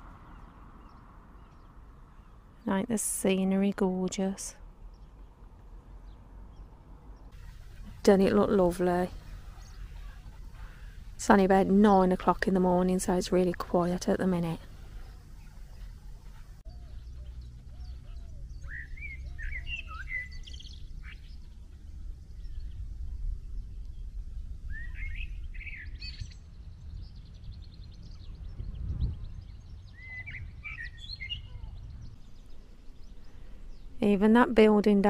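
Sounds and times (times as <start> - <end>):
small birds chirping: 0.0 - 35.0
steady low rumble: 0.0 - 35.0.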